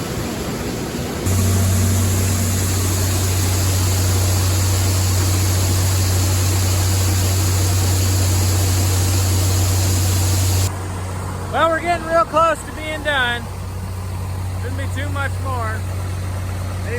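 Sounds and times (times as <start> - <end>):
farm machinery engine hum: 0.9 - 16.9.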